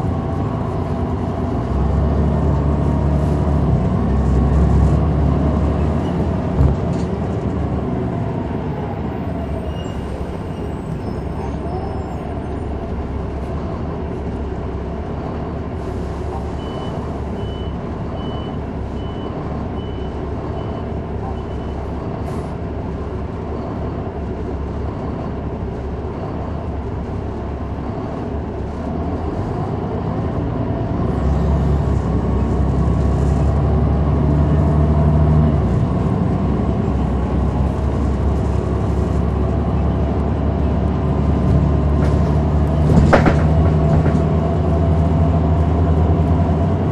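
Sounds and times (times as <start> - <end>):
bus diesel engine hum: 0.0 - 46.9.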